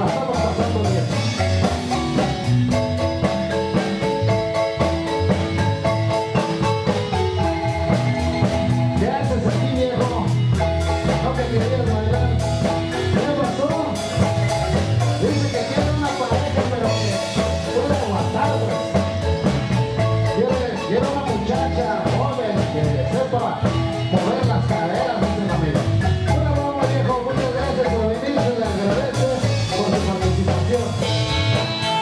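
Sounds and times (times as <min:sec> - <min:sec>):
marimba band playing dance music: 0:00.0 - 0:32.0.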